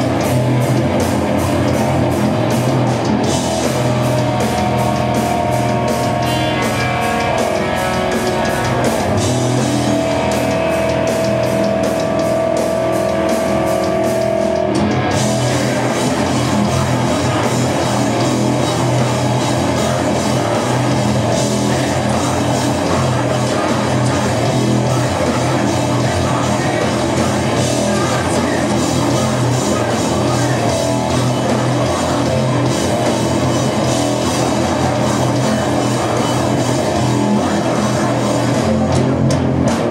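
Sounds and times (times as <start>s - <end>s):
distorted electric guitar: 0.0s - 39.9s
drum kit: 0.0s - 39.9s.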